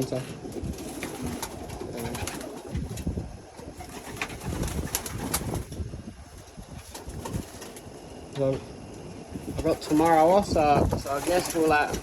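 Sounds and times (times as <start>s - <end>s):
pigeons cooing: 0.4s - 8.2s, 9.2s - 12.0s.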